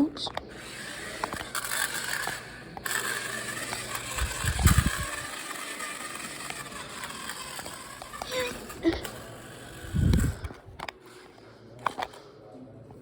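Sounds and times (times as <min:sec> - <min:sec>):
toy car electric motor whining: 0:00.3 - 0:12.2.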